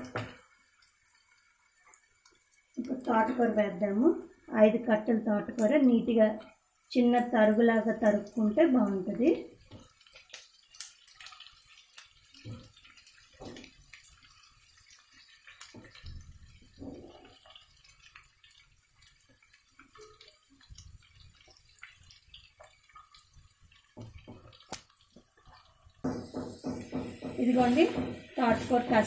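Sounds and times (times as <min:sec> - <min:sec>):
leaves sizzling in hot oil: 0:00.0 - 0:29.0.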